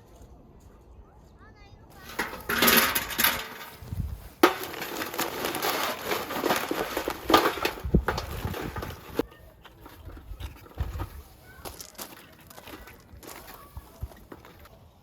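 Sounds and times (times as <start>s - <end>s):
rustling crackling handling noise: 2.0s - 15.0s.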